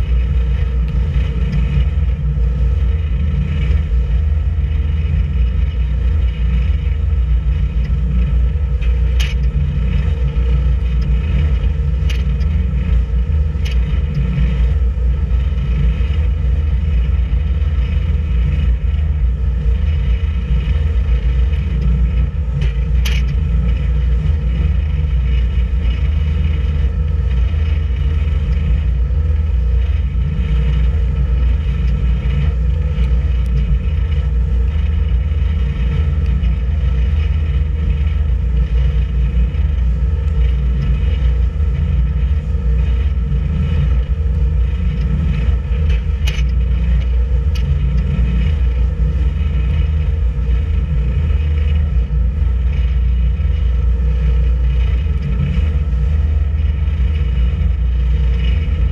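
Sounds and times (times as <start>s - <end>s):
boat engine rumbling: 0.0s - 58.9s.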